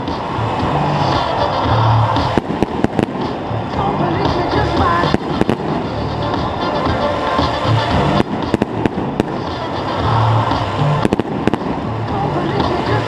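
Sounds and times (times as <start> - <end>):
fireworks bangs: 0.0 - 13.0
music: 0.0 - 13.0.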